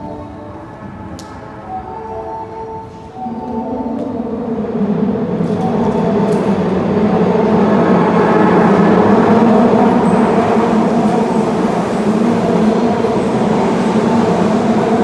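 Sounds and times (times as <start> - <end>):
subway train rumble and motor hum: 0.0 - 15.0.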